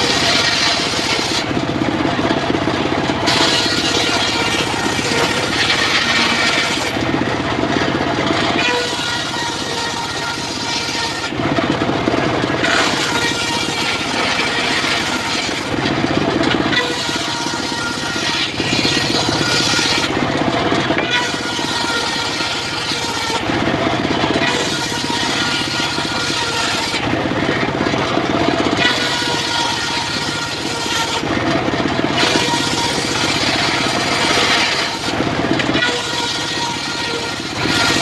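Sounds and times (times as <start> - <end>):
sawmill cutting log: 0.0 - 38.0.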